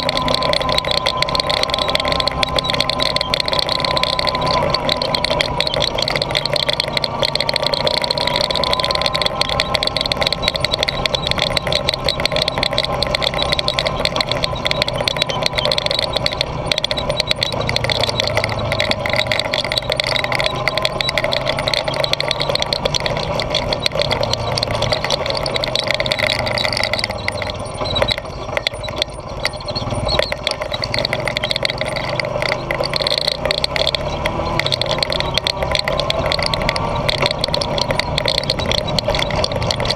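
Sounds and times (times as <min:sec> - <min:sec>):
knocks and rattles: 0:00.0 - 0:39.9
quad engine running: 0:00.0 - 0:39.9.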